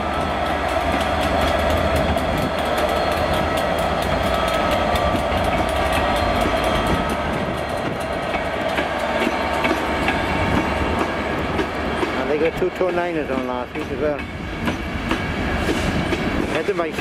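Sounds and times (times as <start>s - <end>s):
diesel locomotive engine drone: 0.0s - 17.0s
train wheels clicking on rails: 0.0s - 17.0s.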